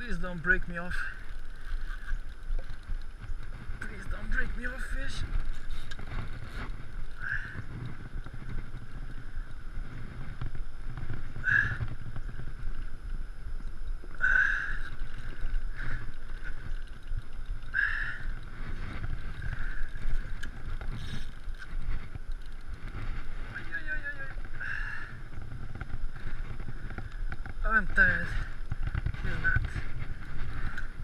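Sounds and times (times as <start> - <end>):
wind on microphone: 1.2 - 31.0.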